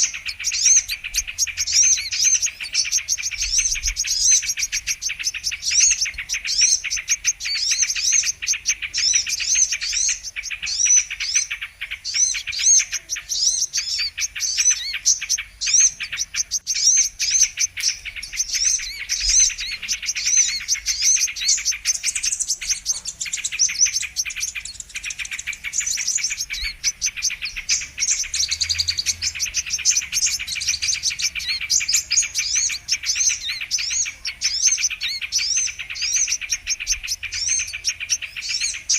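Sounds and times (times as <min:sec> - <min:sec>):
sunbirds chirping chorus: 0:00.0 - 0:38.9.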